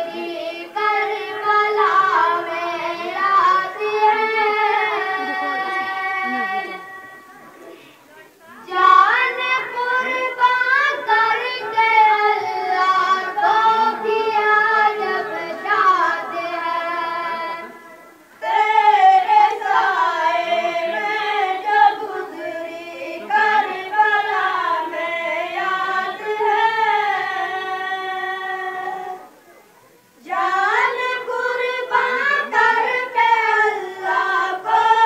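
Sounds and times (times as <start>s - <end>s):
boy singing into a microphone: 0.0s - 7.8s, 8.6s - 29.4s.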